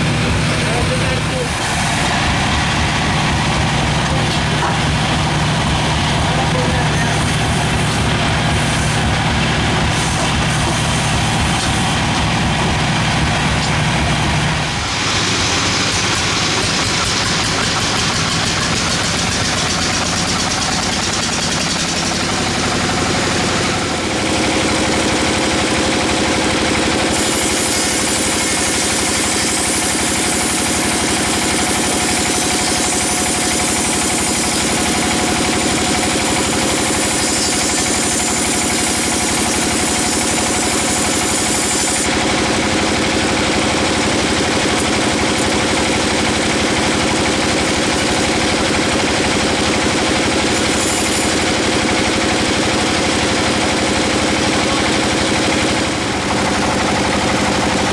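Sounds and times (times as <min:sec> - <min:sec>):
bandsaw running: 0:00.0 - 0:57.9.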